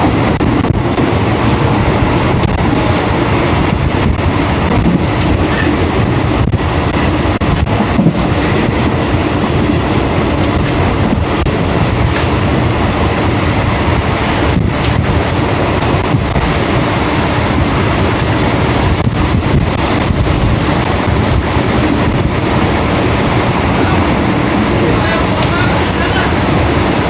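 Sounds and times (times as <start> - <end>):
train rumbling along track: 0.0 - 27.0.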